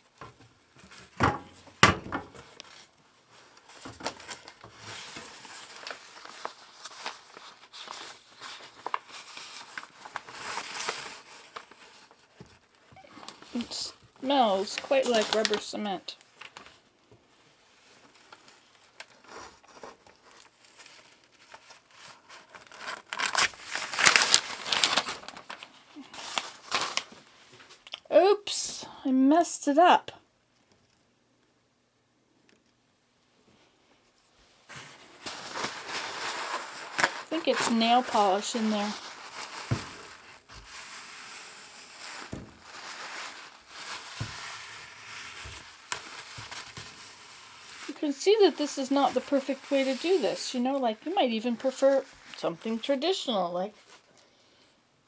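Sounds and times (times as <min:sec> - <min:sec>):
crinkling handling noises: 0:00.0 - 0:28.1, 0:33.4 - 0:54.8.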